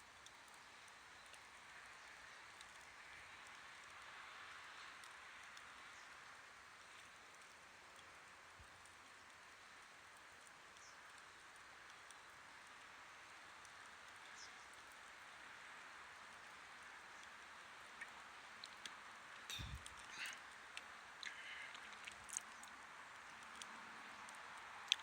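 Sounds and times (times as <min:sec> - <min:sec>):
campfire hiss: 0:00.0 - 0:25.0
fire crackles: 0:00.0 - 0:25.0.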